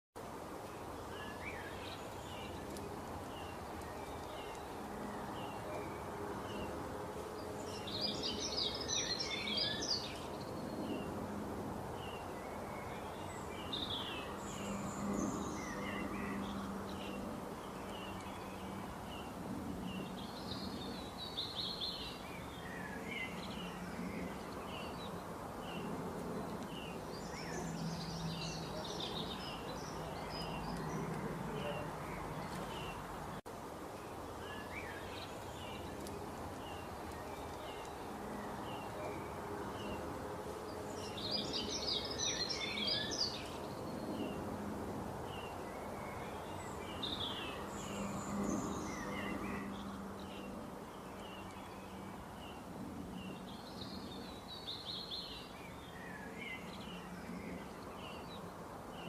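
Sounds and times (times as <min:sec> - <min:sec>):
songbirds chirping and twittering: 0:00.2 - 0:59.0.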